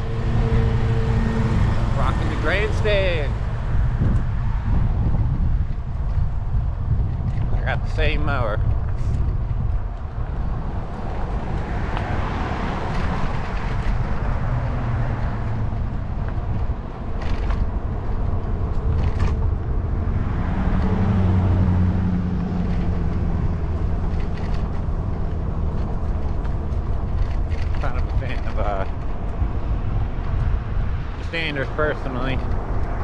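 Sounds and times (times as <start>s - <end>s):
passing vehicle engine: 0.0s - 7.4s, 8.8s - 33.0s
wind and road rumble: 0.0s - 33.0s.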